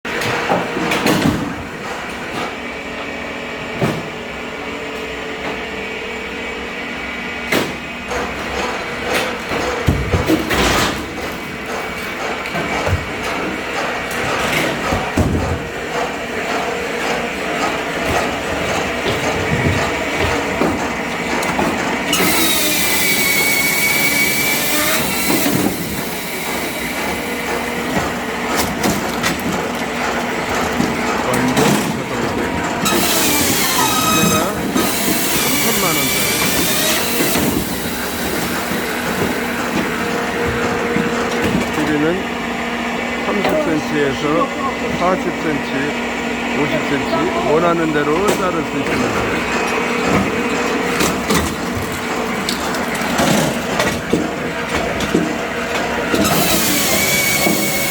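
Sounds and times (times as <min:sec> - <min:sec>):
firewood machine humming: 0:00.1 - 0:57.9.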